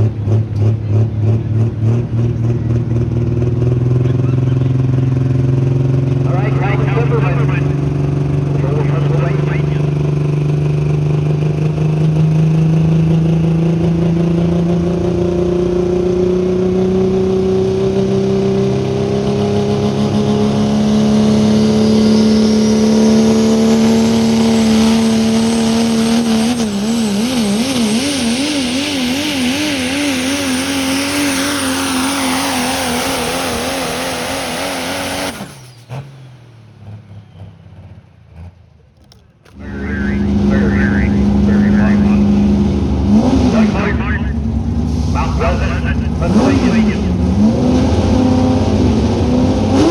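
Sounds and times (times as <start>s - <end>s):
truck engine under heavy load: 0.0s - 49.9s.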